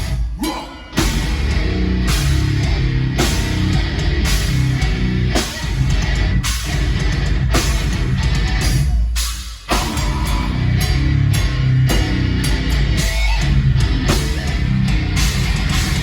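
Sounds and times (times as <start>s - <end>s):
live heavy metal band: 0.0s - 16.0s.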